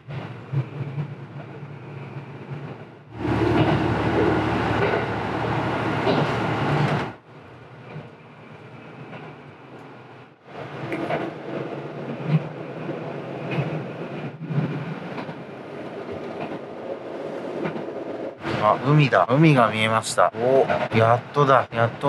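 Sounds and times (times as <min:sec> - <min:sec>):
railcar engine hum: 0:00.0 - 0:22.0.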